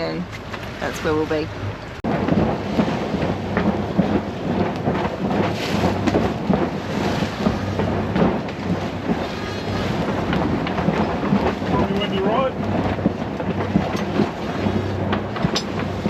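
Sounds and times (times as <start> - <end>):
boat diesel engine humming: 0.0 - 16.0
wind buffeting microphone: 0.0 - 16.0.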